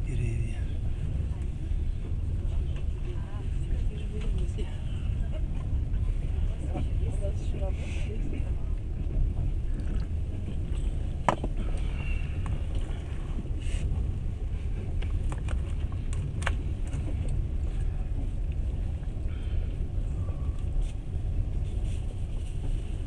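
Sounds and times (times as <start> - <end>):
train carriage rumbling on track: 0.0 - 23.0.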